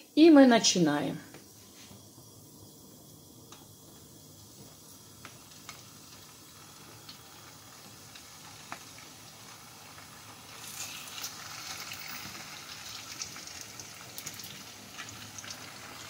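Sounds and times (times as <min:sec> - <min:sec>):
fish sizzling in hot oil: 0:02.2 - 0:16.0.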